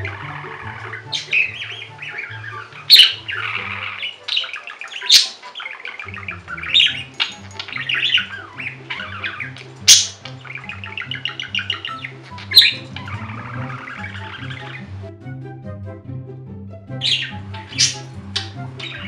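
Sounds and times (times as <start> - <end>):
budgie chattering and warbling: 0.0 - 14.9, 17.1 - 19.0
sharp budgie chirps: 0.0 - 14.9, 17.0 - 19.0
music with bouncing bass line: 0.0 - 19.0.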